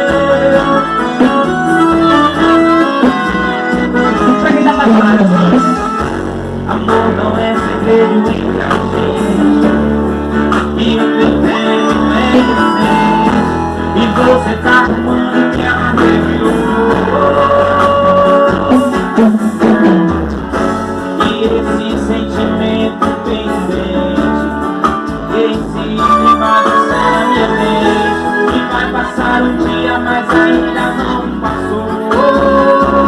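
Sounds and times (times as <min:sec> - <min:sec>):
person singing: 0:00.0 - 0:06.0, 0:06.6 - 0:20.2, 0:21.1 - 0:33.0
band music with guitar and bass: 0:00.0 - 0:33.0.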